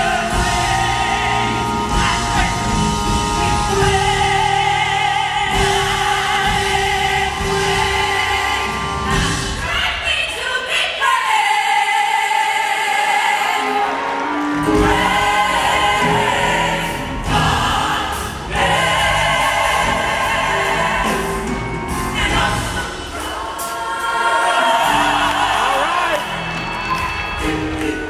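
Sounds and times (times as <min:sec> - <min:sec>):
gospel choir singing: 0:00.0 - 0:28.0.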